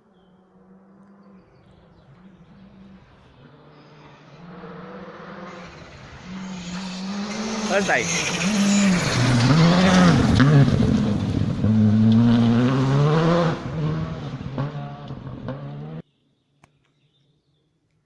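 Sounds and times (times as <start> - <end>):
rally car engine revving past: 0.6 - 16.0.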